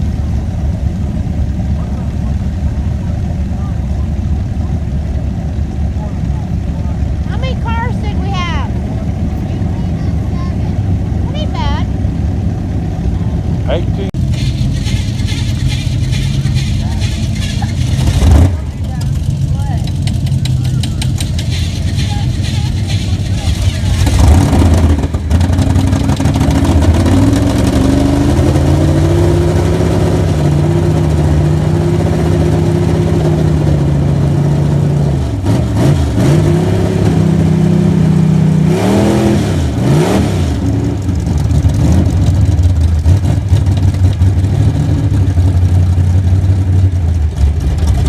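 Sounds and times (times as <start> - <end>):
car engine while driving: 0.0 - 48.0.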